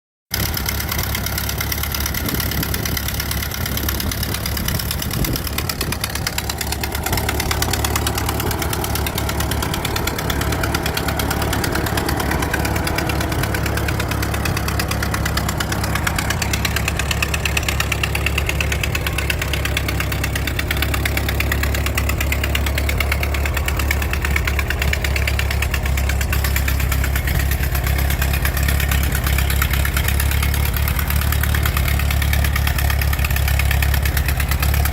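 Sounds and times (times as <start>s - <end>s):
tractor engine idling: 0.3s - 34.9s.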